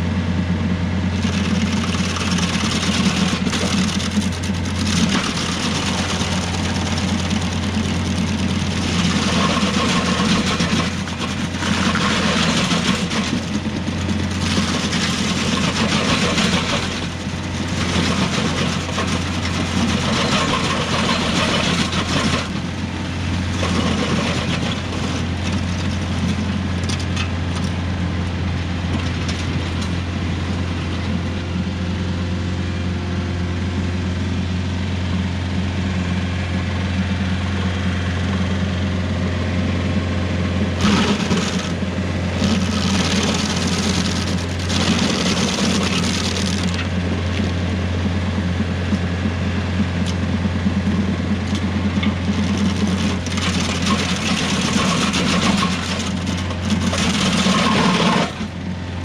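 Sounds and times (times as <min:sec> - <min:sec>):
tractor diesel engine running: 0:00.0 - 0:59.0
stump grinder cutting: 0:00.9 - 0:59.0.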